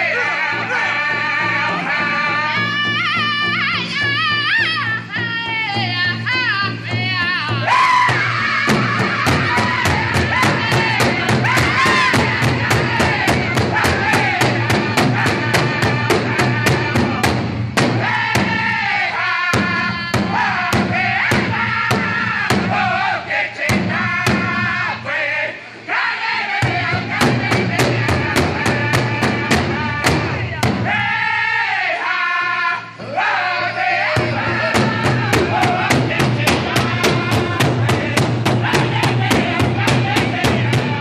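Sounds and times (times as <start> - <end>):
men singing in unison: 0.0 - 41.0
large drum beating: 1.4 - 18.8, 19.5 - 23.0, 23.7 - 24.8, 26.6 - 31.1, 34.2 - 41.0.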